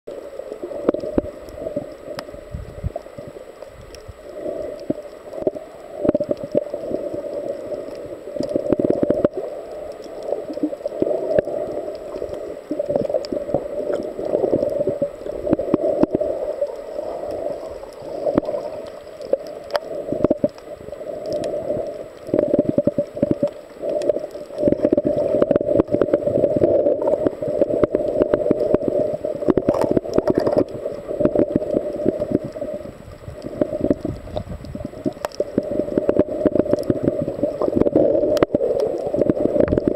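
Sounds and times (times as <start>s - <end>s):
muffled underwater rush: 0.1s - 39.9s
small clicks and crackles: 0.1s - 39.9s.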